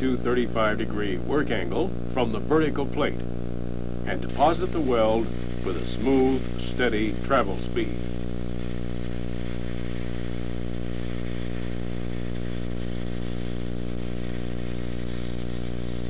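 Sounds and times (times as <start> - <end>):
electrical hum: 0.0 - 16.0
welding arc crackling hiss: 0.0 - 16.0.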